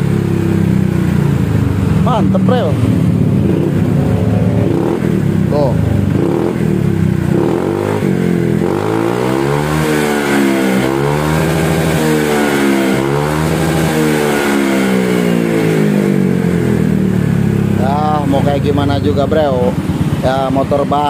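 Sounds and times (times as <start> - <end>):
scooter engine revving: 0.0 - 21.0.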